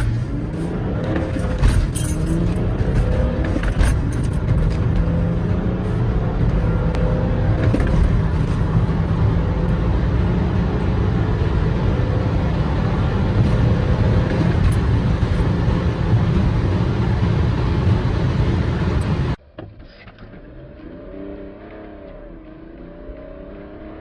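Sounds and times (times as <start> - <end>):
car engine driving: 0.0 - 24.0
road noise: 0.0 - 24.0.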